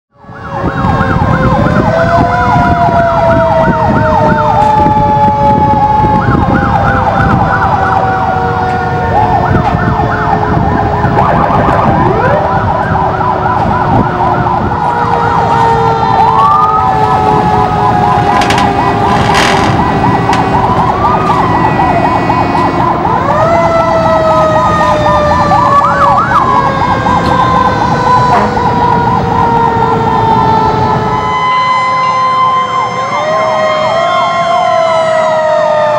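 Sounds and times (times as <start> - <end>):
fire truck sirens wailing: 0.1 - 35.9
siren yelps: 0.1 - 35.9.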